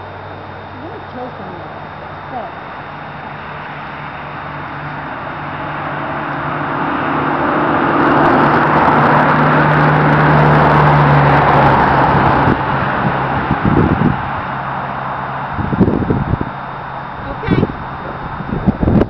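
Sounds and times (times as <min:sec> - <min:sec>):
motor vehicle passing: 0:00.6 - 0:19.0.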